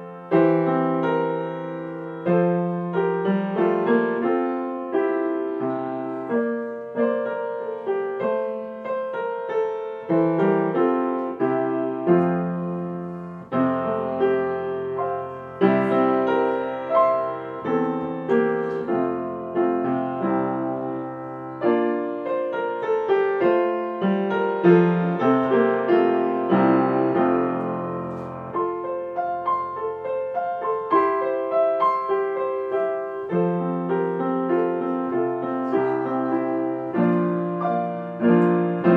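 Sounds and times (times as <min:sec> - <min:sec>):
gentle solo piano: 0:00.0 - 0:38.9.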